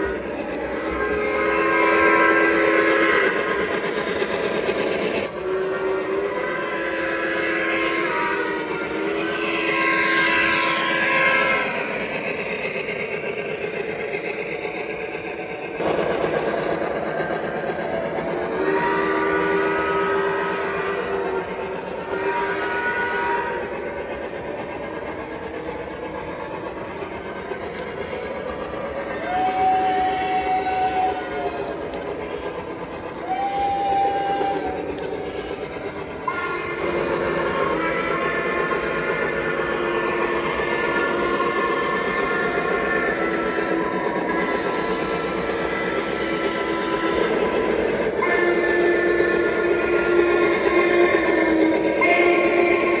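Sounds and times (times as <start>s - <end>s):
chime steam whistle: 0.0s - 53.0s
model train running noise: 0.0s - 53.0s.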